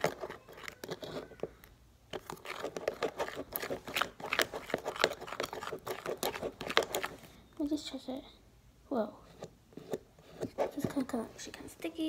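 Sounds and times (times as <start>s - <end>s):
plastic spoon stirring slime: 0.0s - 8.0s, 9.1s - 12.0s.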